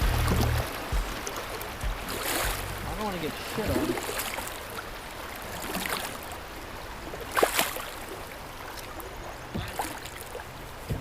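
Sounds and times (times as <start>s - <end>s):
flowing river water: 0.0s - 11.0s
water splashes: 0.0s - 11.0s.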